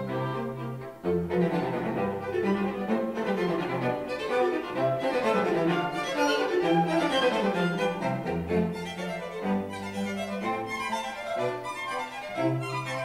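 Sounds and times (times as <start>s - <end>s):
bowed strings melody: 0.0s - 13.0s.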